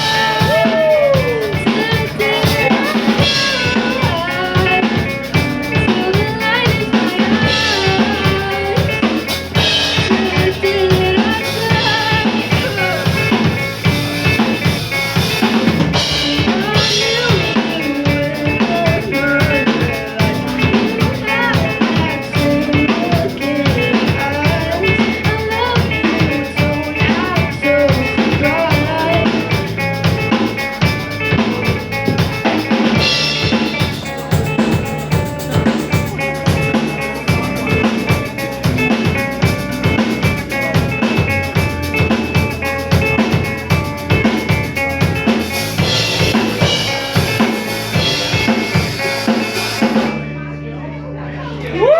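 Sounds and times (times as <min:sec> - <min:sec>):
drum kit beat: 0:00.0 - 0:50.2
electric guitar bending melody: 0:00.0 - 0:50.4
live band playing: 0:00.0 - 0:50.4.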